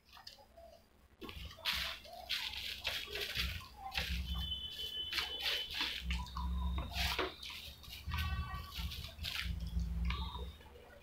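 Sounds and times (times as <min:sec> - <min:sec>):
plastic sheet rustling: 0:01.2 - 0:10.5.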